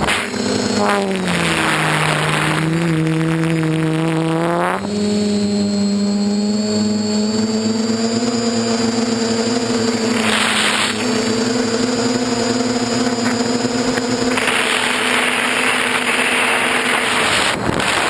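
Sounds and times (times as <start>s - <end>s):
quadcopter propellers humming: 0.0s - 18.0s.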